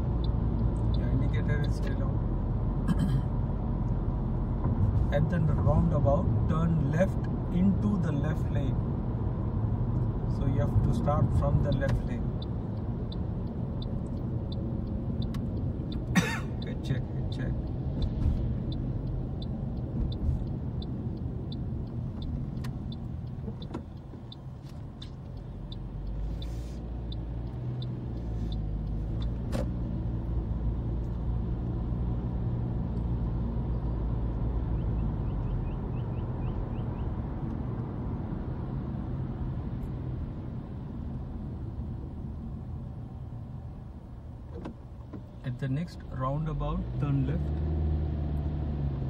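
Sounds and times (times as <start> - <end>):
car engine and tyre rumble: 0.0 - 49.0
turn signal ticking: 0.0 - 49.0.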